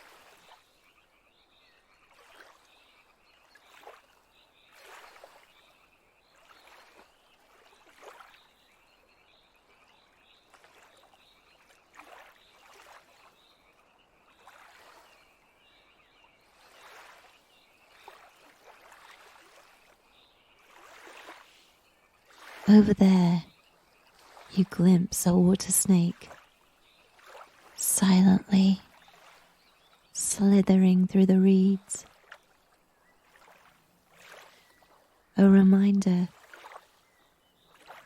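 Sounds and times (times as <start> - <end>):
frogs croaking: 0.0 - 38.0
lake water lapping: 2.0 - 8.7, 10.0 - 35.3, 36.3 - 38.0.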